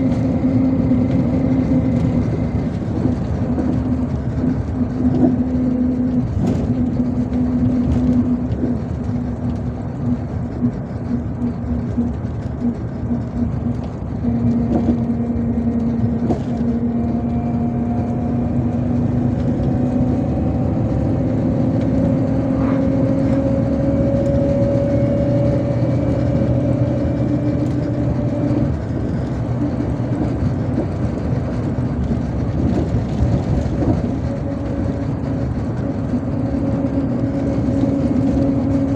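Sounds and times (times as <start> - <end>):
bus engine drone: 0.0 - 38.9
road noise: 0.0 - 38.9.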